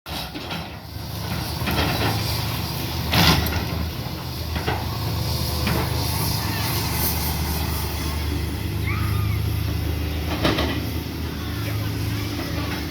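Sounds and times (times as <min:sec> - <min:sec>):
diesel engine running: 0:00.1 - 0:12.9.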